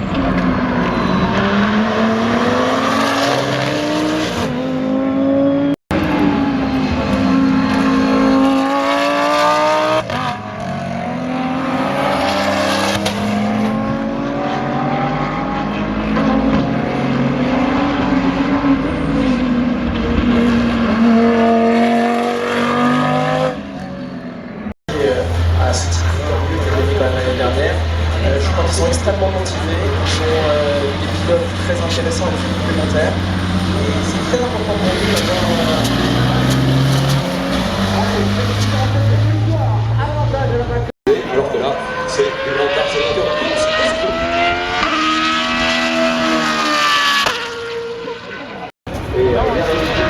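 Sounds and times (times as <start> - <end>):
racing car engines at full throttle: 0.0 - 50.0.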